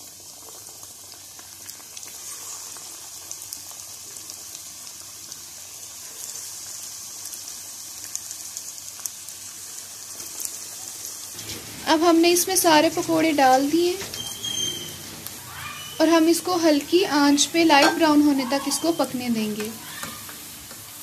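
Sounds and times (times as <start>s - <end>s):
hot oil sizzling and popping: 0.0s - 21.0s.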